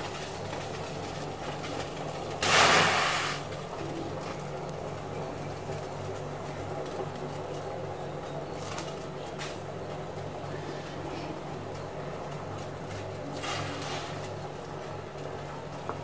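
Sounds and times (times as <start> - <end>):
water heating: 0.0 - 16.0.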